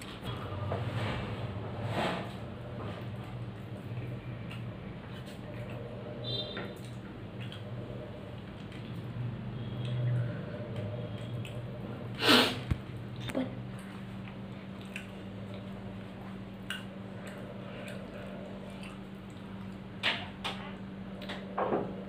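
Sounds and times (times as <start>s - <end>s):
low steady hum: 0.0s - 22.0s
mixing and chewing: 2.5s - 21.5s.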